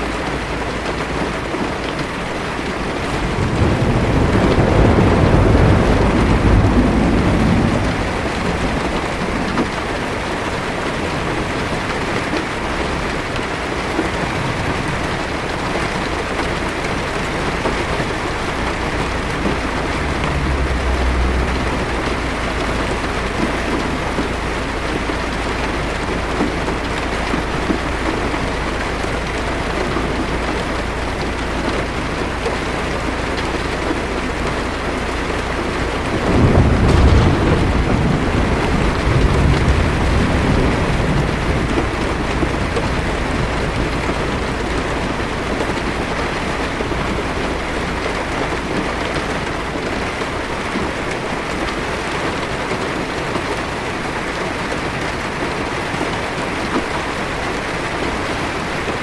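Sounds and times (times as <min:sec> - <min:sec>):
rain drumming on car roof: 0:00.0 - 0:59.0
distant thunder rumble: 0:00.8 - 0:59.0.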